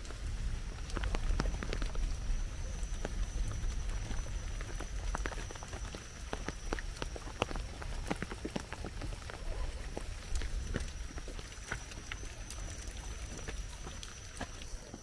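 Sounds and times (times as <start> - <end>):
footsteps crunching on trail: 0.8 - 15.0.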